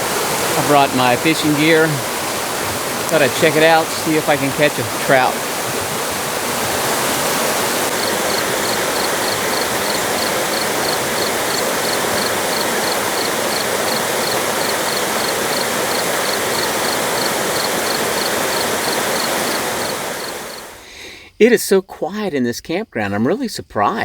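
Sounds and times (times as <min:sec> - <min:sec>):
creek rushing over rocks: 0:00.0 - 0:20.8.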